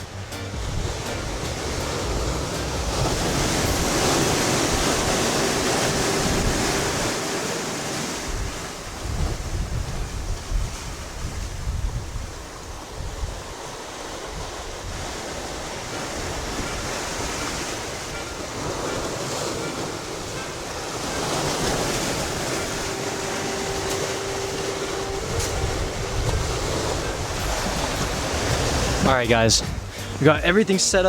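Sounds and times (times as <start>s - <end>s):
wind buffeting microphone: 0.0s - 30.5s
ocean surf on shore: 0.0s - 31.0s.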